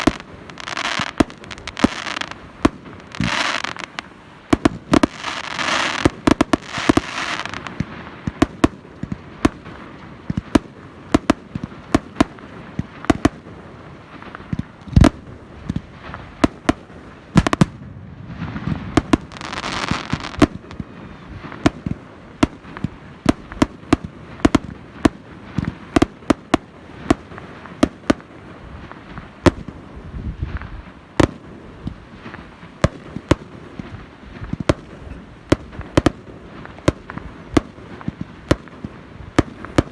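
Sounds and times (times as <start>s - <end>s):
fireworks bangs: 0.0s - 39.9s
fireworks hissing crackle: 0.0s - 39.9s.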